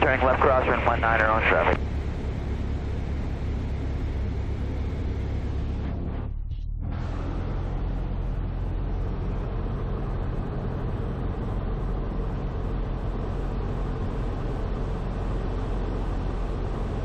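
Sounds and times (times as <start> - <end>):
airplane engine and propeller drone: 0.0 - 17.0.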